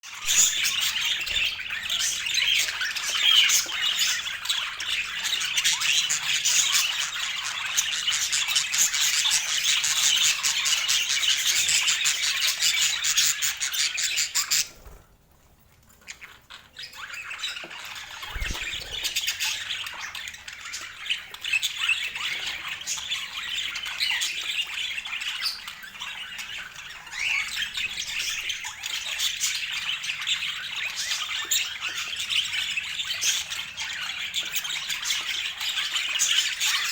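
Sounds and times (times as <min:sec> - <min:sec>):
budgerigars chattering and squawking: 0:00.1 - 0:15.0, 0:16.2 - 0:36.9.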